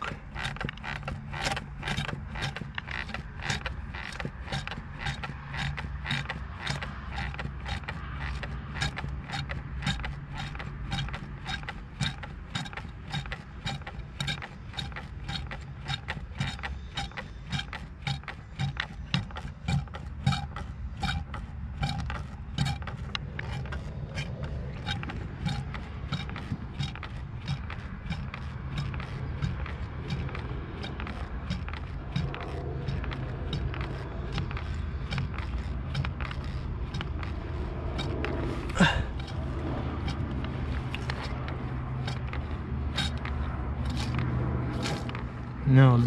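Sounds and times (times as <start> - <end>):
primer bulb squeezing: 0.0 - 45.6.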